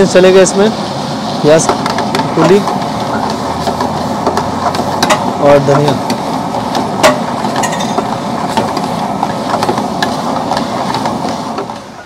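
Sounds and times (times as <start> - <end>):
wok burner rushing and frying: 0.0 - 12.0.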